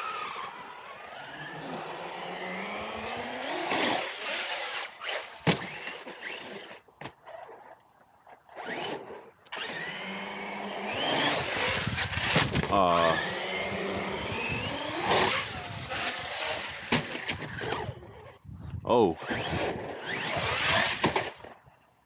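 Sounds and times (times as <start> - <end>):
electric motor whining: 0.0 - 6.7, 8.6 - 18.4, 19.2 - 21.1.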